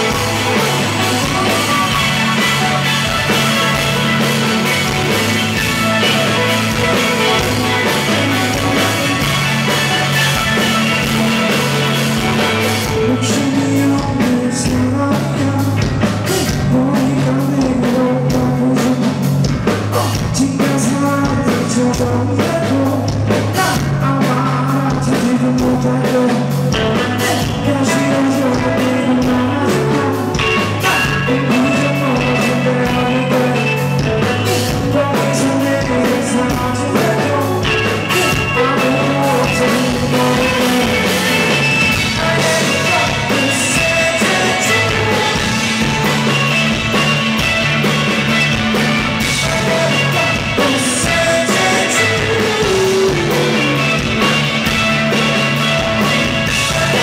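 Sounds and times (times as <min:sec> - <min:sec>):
bass line: 0:00.0 - 0:57.0
drum kit: 0:00.0 - 0:57.0
electric guitars: 0:00.0 - 0:57.0.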